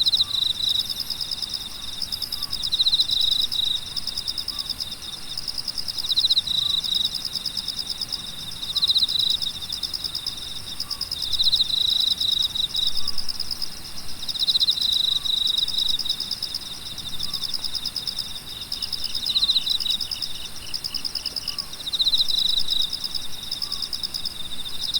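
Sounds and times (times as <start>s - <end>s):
crickets chirping: 0.0s - 24.9s
lower pulsing insect trill: 0.0s - 24.9s.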